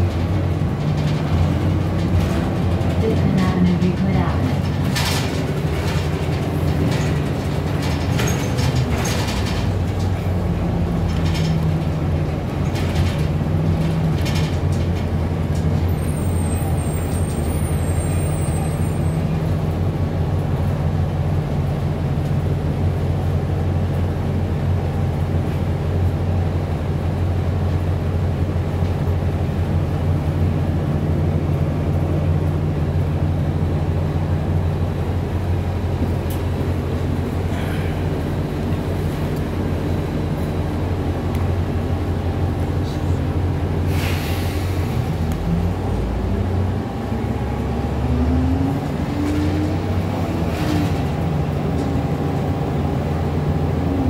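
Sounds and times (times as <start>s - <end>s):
bus engine droning: 0.0s - 54.0s.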